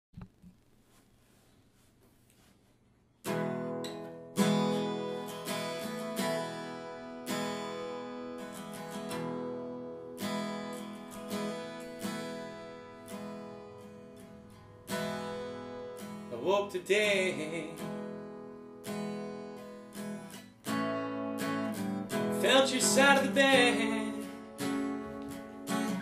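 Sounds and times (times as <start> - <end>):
acoustic guitar chords ringing: 3.2 - 26.0.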